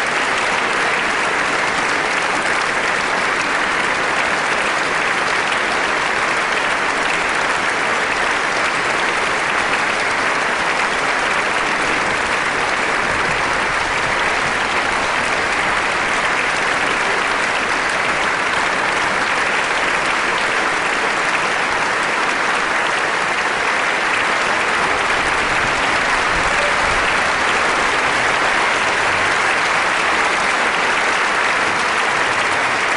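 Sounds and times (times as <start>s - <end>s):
audience applauding: 0.0s - 32.9s.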